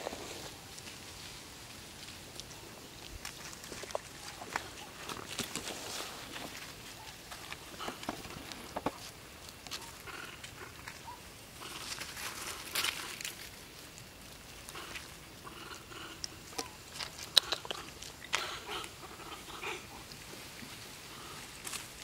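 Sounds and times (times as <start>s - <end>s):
rustling in grass and leaves: 0.0s - 22.0s.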